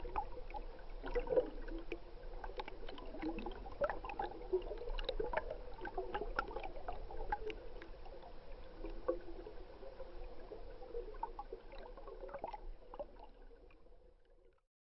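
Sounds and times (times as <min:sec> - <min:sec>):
underwater gurgling and bubbling: 0:00.0 - 0:14.3.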